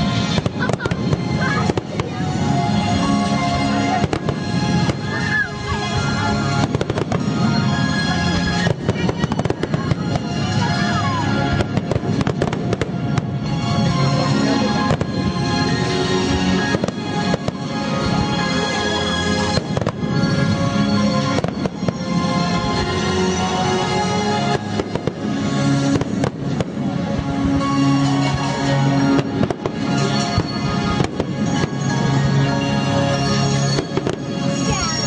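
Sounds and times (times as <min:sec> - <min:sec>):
fireworks bangs and crackles: 0:00.0 - 0:35.0
music playing: 0:00.0 - 0:35.0.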